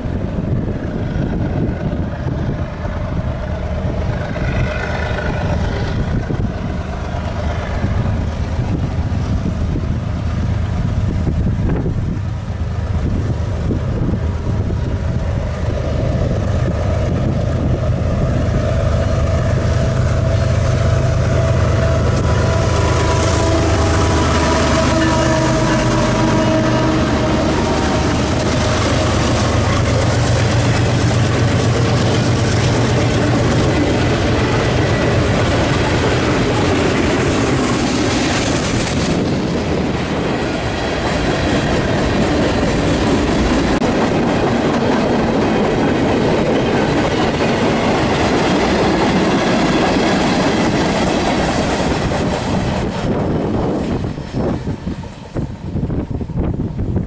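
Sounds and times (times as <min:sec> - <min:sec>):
freight cars rattling over rails: 0:00.0 - 0:56.3
locomotive engine droning: 0:00.0 - 0:57.0.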